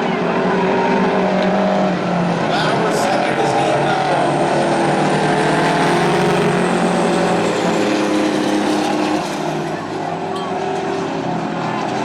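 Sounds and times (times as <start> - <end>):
truck diesel engines running hard: 0.0 - 12.0.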